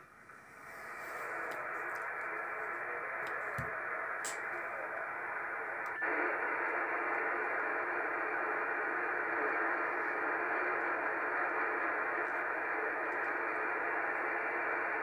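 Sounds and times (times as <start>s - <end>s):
radio static hissing: 0.0s - 15.0s.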